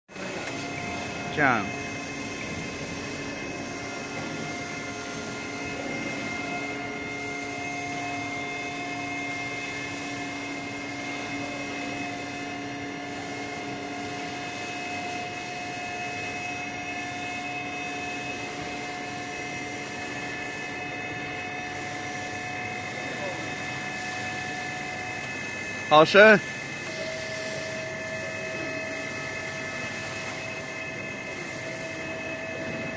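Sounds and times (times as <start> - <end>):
constant machine whine: 0.1 - 32.9
factory machinery humming: 0.1 - 32.9.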